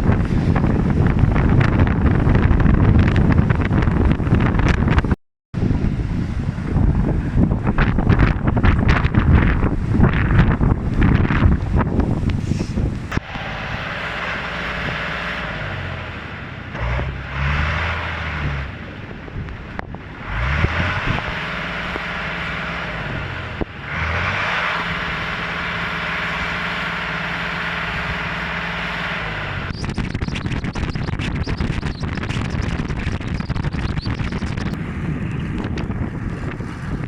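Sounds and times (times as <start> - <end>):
steady rushing noise: 0.0 - 37.0
vehicle engine running: 0.0 - 37.0.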